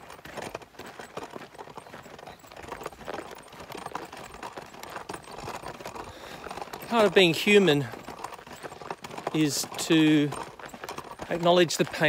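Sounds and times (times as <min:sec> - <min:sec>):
footsteps on dry ground: 0:00.0 - 0:12.0.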